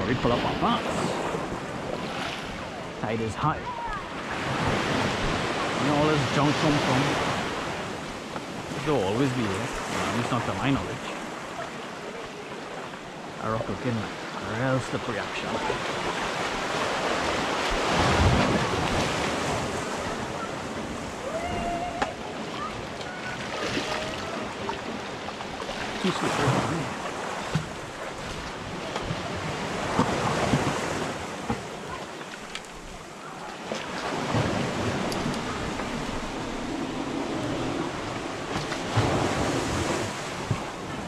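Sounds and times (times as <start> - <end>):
sea waves washing over rocks: 0.0 - 41.0.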